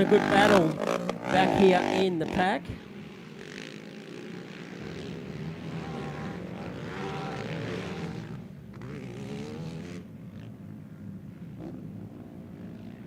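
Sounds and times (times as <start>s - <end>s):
quad bike engines revving: 0.0s - 10.7s, 11.4s - 13.0s.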